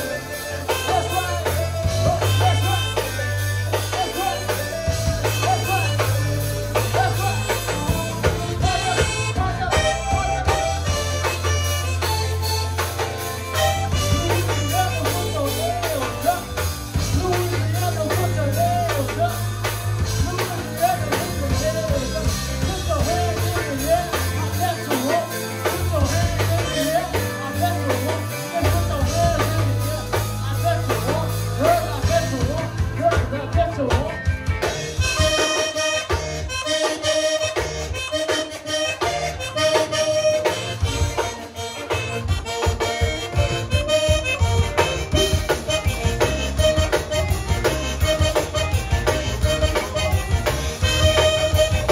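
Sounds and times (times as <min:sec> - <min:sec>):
bass: 0:00.0 - 0:51.9
drum beat: 0:00.0 - 0:51.9
reedy accordion lead: 0:00.0 - 0:51.9.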